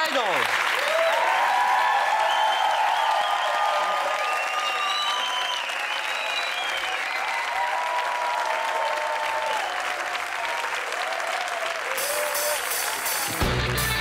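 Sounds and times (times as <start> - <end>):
audience applauding and cheering: 0.0 - 14.0.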